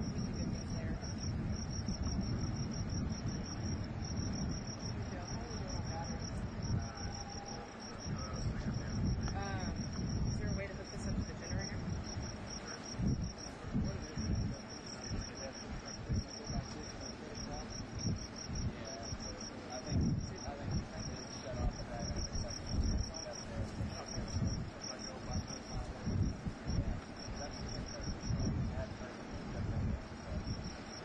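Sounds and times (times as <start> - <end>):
insects chirping: 0.0 - 31.0
low uneven rumble: 0.0 - 31.0.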